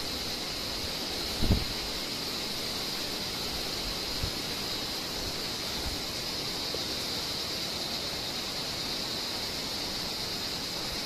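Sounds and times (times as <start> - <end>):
night insects shrill drone: 0.0 - 11.0.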